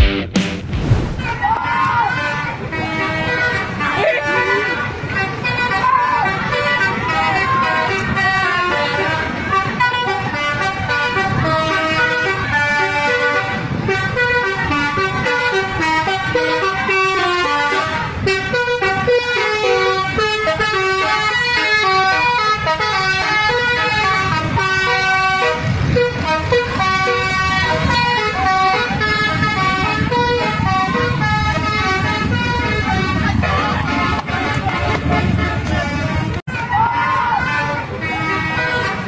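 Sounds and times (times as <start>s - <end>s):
bus engine rumbling: 0.0s - 39.0s
musical air horn tune: 2.1s - 36.7s, 37.4s - 39.0s.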